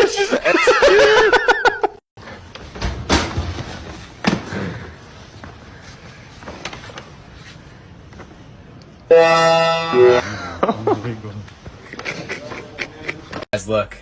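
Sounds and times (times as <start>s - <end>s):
steady low background noise: 1.8s - 14.0s.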